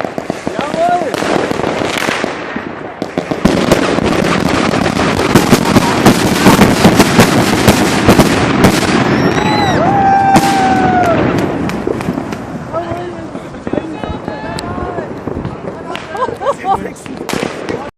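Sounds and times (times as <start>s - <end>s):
fireworks crackling and banging: 0.0s - 17.9s.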